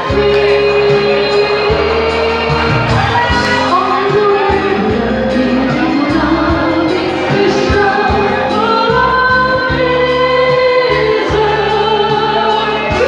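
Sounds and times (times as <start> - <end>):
amplified musical backing: 0.0 - 13.0
women singing into microphones: 0.0 - 13.0.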